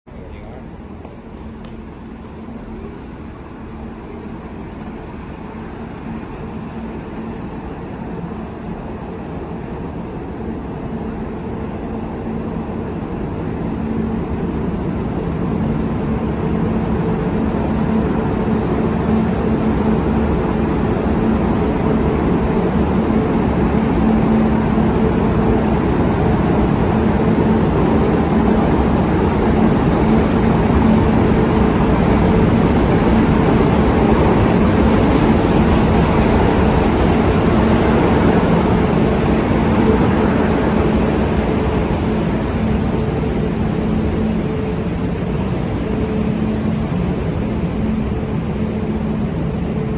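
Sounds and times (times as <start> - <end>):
model train rumbling: 0.1 - 49.9.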